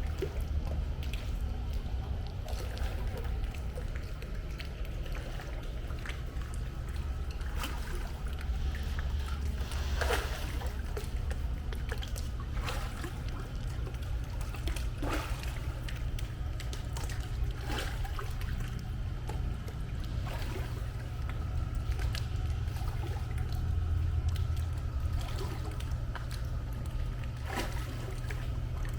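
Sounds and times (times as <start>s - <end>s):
pool water splashing: 0.0s - 28.9s
steady low rumble: 0.0s - 28.9s.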